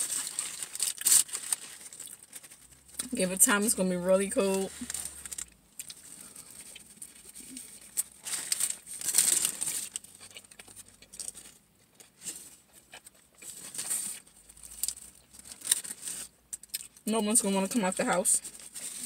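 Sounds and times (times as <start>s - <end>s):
paper wrapper crinkling: 0.0s - 17.0s.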